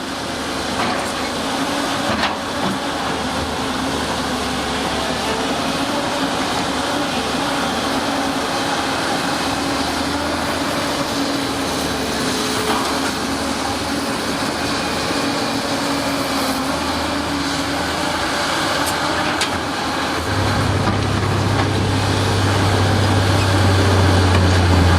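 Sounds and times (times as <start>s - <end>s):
diesel engine of earthmoving machine: 0.0s - 24.9s.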